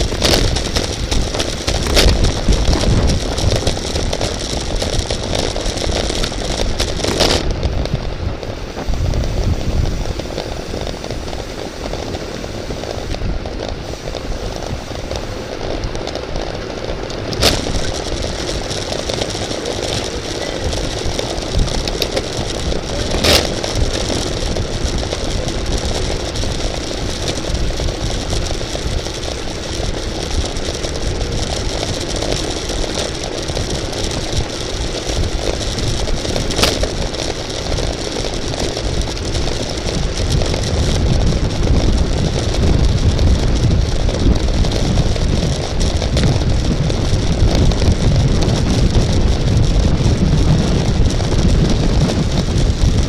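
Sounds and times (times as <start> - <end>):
road noise rumble: 0.0 - 53.0
wind rush on microphone: 0.0 - 53.0.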